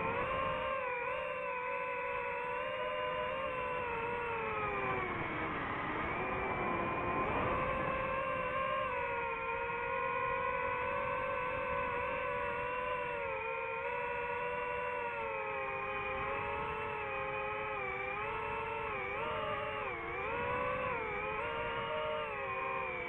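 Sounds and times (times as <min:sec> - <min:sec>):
drone propellers whining: 0:00.0 - 0:23.0.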